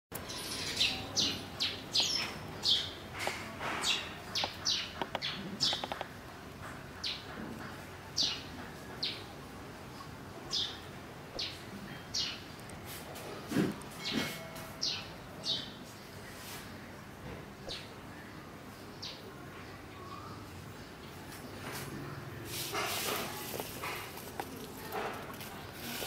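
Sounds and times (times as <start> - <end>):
birds chirping: 0.1 - 26.0.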